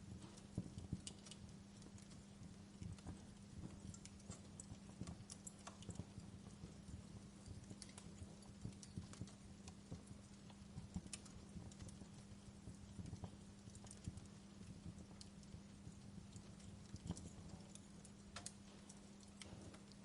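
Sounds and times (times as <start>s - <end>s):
faint low hum: 0.0s - 20.0s
wood fire crackling: 0.0s - 20.0s.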